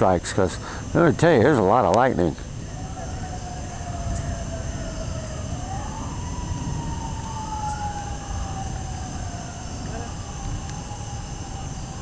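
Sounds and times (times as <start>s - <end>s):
distant sirens wailing: 0.0s - 12.0s.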